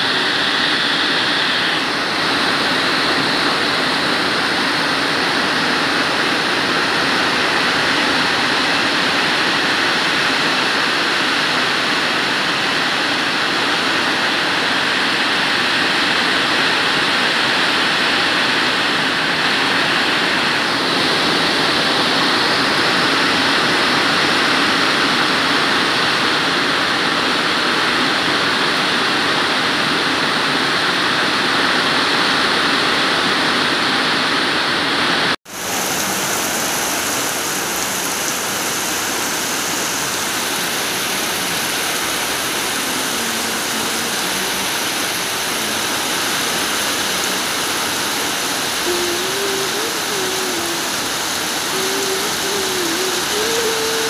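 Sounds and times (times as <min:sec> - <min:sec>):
heavy rain on trees and roof: 0:00.0 - 0:54.0.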